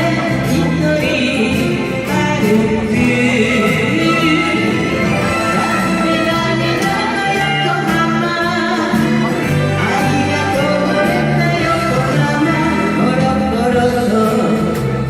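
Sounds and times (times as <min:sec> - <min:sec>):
backing music with bass line: 0:00.0 - 0:15.0
person singing: 0:00.0 - 0:15.0.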